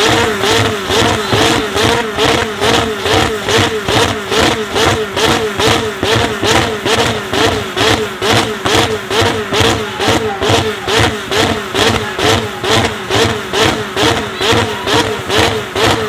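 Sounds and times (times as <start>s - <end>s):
sports car engine revving: 0.0s - 16.0s.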